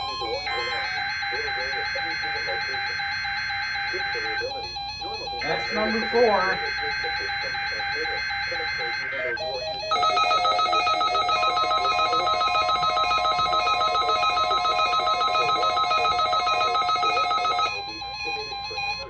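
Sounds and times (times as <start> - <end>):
steady high tone: 0.0 - 19.0
trilling electronic alert tone: 0.0 - 19.0.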